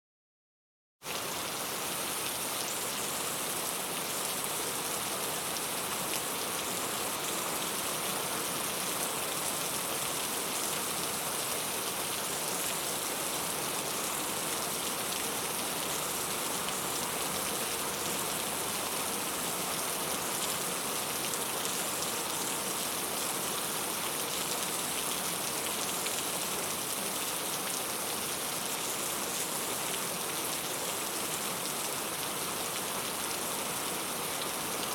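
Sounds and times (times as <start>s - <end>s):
steady rain falling: 1.0s - 34.9s.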